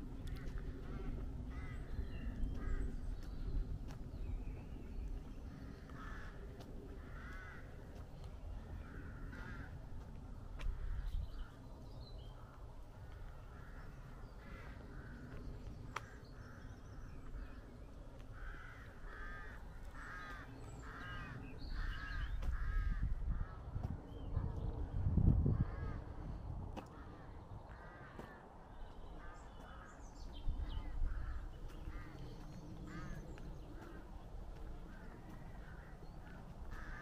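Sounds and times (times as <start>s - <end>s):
crows cawing: 0.2s - 3.4s, 5.5s - 11.6s, 12.3s - 23.8s, 25.5s - 26.2s, 26.8s - 37.0s.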